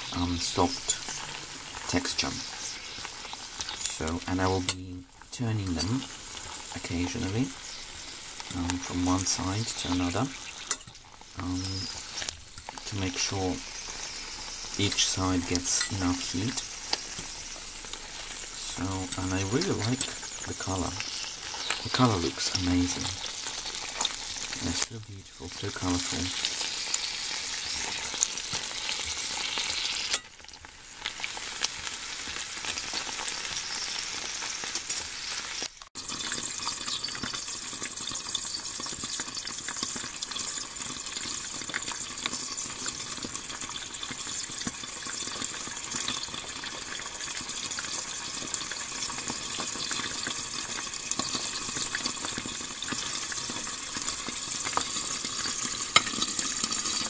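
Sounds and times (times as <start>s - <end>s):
peppers sizzling in oil: 0.0s - 57.0s.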